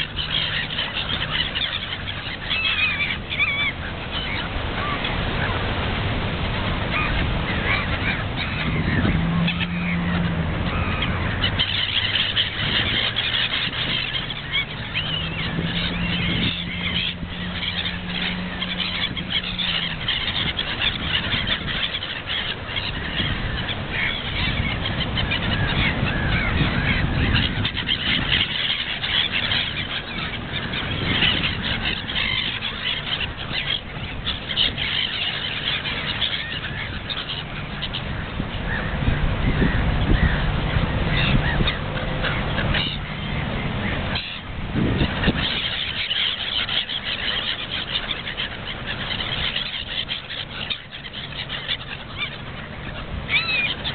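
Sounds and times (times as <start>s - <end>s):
gulls calling: 0.0s - 53.9s.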